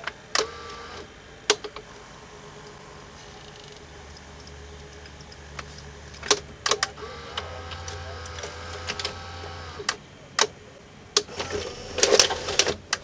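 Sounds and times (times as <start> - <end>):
steady tones: 0.0 - 12.8
tape mechanism humming: 0.0 - 13.0.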